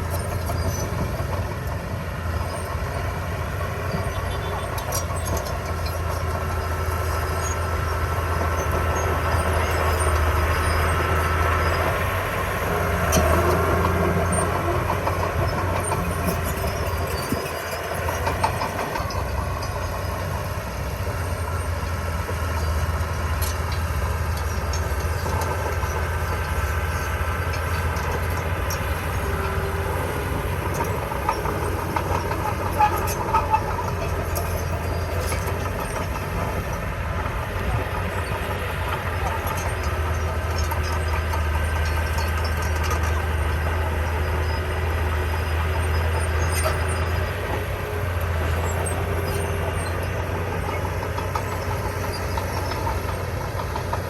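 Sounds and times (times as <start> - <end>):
bulldozer diesel engine under load: 0.0 - 54.0
steel tracks rattling: 0.0 - 54.0.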